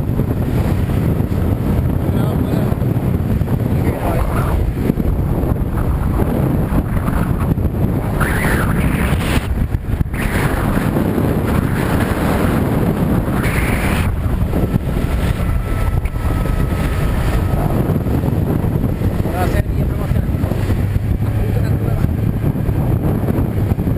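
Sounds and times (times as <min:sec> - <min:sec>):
wind buffeting microphone: 0:00.0 - 0:23.9
water splashing against hull: 0:04.5 - 0:23.9.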